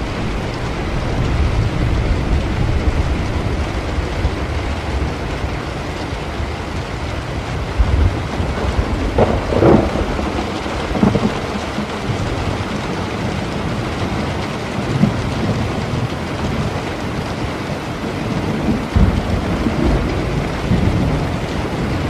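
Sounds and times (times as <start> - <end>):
low rumbling thunder: 0.0 - 22.0
steady rain: 0.0 - 22.0.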